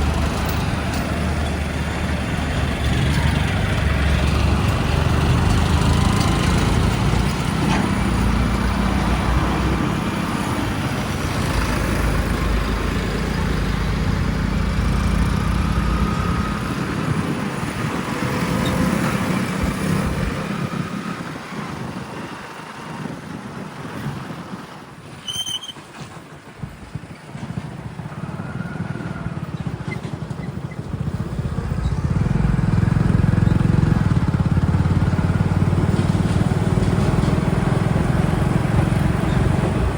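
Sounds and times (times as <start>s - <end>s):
heavy vehicle engine running: 0.0s - 25.2s, 25.8s - 39.9s.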